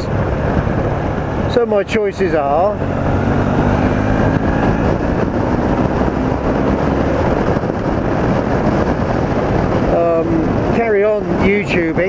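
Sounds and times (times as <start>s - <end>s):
motorcycle engine running: 0.0s - 11.3s
wind noise on microphone: 0.0s - 12.0s.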